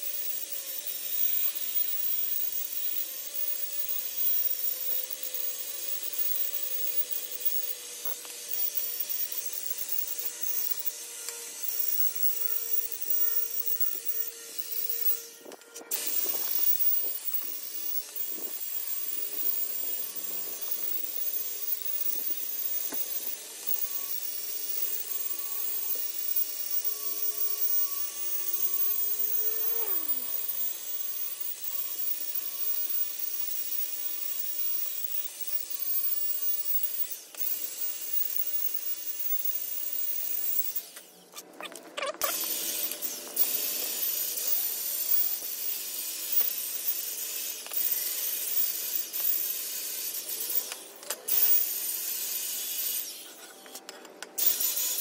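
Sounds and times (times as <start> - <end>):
power tool cutting steel: 0.0 - 55.0.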